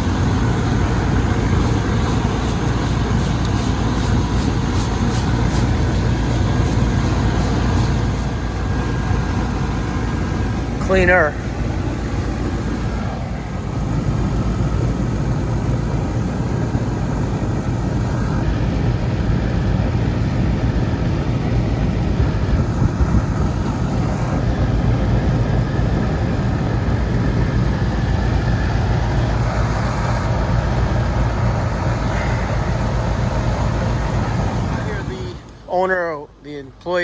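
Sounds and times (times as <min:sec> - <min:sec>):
air conditioning unit humming: 0:00.0 - 0:37.0.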